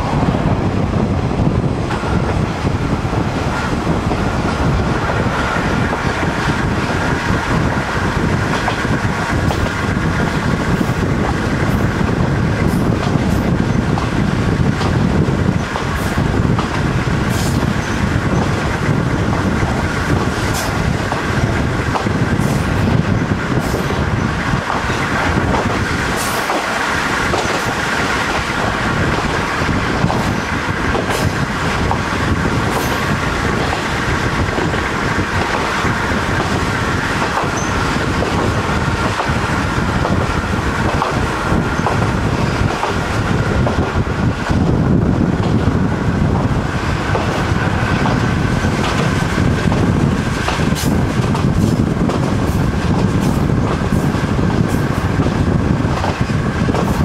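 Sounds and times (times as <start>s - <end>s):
diesel railcar rumbling: 0.0s - 57.0s
railcar whine: 0.0s - 57.0s
wheels ticking on rails: 0.0s - 57.0s.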